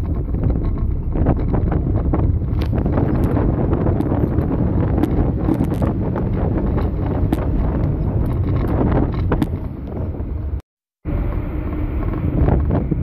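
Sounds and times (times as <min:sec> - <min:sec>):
moving car rumble: 0:00.0 - 0:13.0
wind buffeting microphone: 0:00.0 - 0:13.0.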